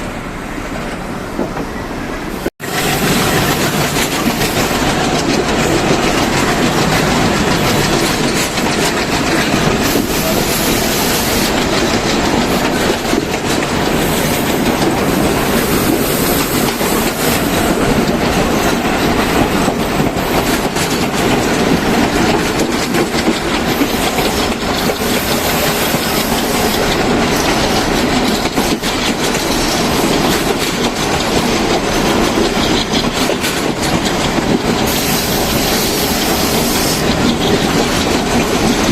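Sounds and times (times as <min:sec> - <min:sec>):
train wheels rumbling on rails: 0:00.0 - 0:38.9
clickety-clack over rail joints: 0:00.6 - 0:38.9.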